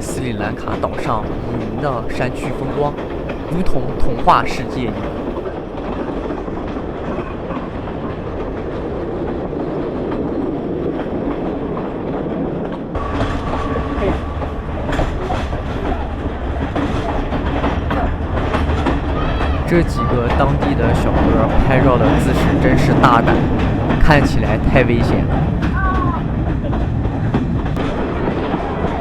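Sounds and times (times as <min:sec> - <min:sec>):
train rumble: 0:00.0 - 0:29.0
wheels clattering over rail joints: 0:00.0 - 0:29.0.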